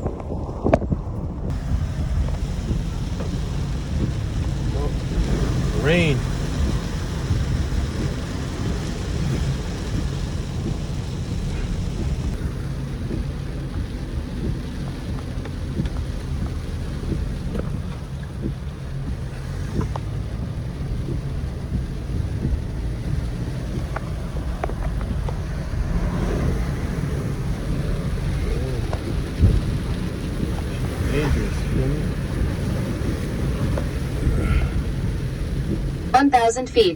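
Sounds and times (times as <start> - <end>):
car road and engine rumble: 0.0 - 36.9
wind buffeting microphone: 0.0 - 36.9.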